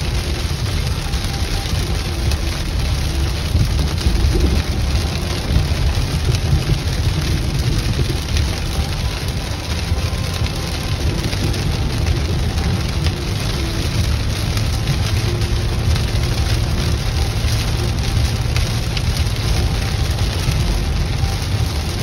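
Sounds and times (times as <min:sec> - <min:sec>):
heavy rain on car roof: 0:00.0 - 0:22.0
road and tyre noise: 0:00.0 - 0:22.0.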